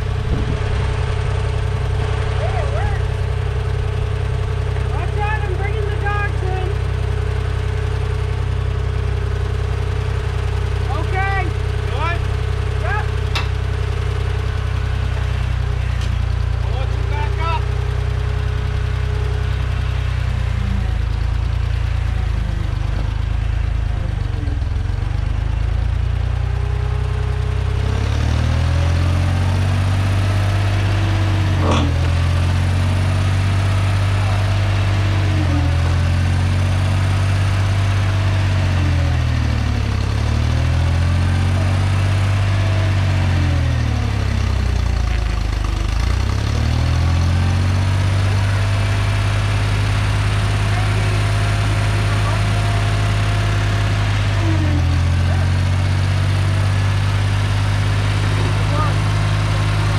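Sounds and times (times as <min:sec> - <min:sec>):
tractor engine revving: 0:00.0 - 0:59.9.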